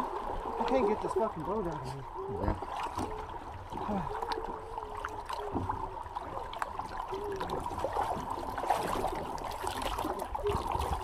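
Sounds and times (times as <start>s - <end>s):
river water sloshing: 0.0s - 11.0s.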